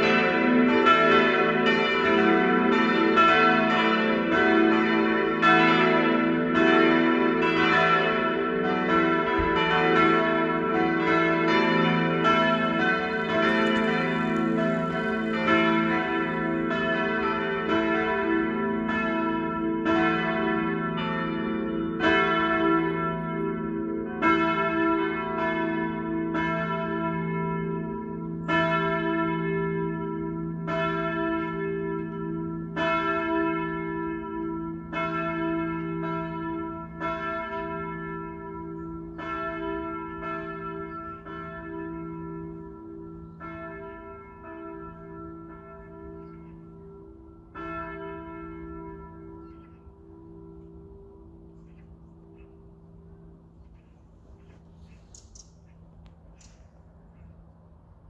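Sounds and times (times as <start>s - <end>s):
church bells pealing: 0.0s - 54.8s.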